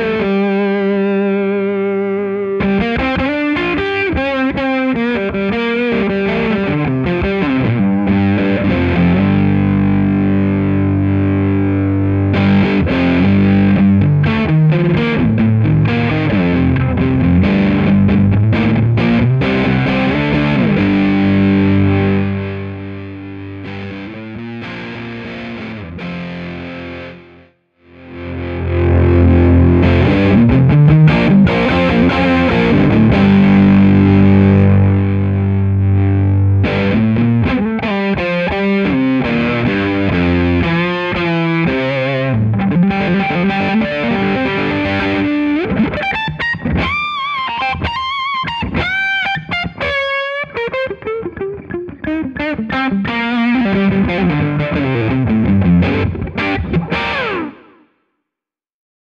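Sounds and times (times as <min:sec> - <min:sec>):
fuzzed electric guitar: 0:00.0 - 0:58.0.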